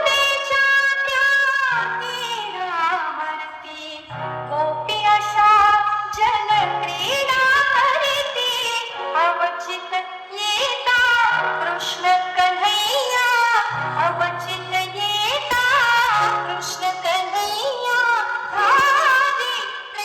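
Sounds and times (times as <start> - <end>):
woman singing over sound system: 0.0 - 20.0.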